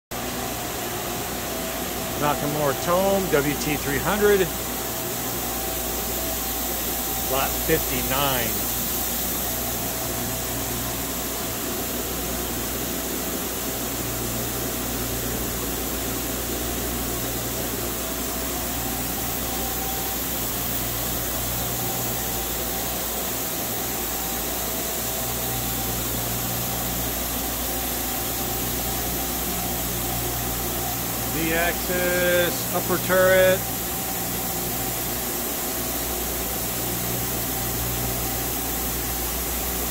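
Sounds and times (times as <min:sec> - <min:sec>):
idle machine hum and hiss: 0:00.1 - 0:39.9.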